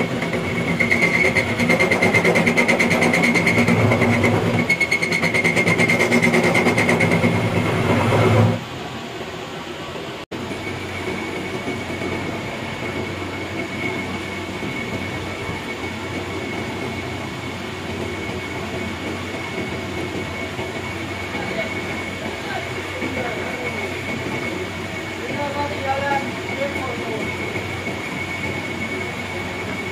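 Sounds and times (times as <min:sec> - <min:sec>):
workshop machine whining: 0:00.0 - 0:29.9.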